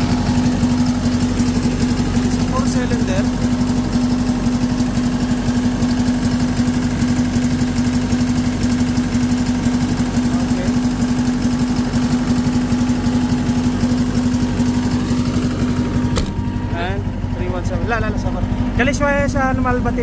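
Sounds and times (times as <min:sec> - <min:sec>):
diesel engine running roughly: 0:00.0 - 0:20.0.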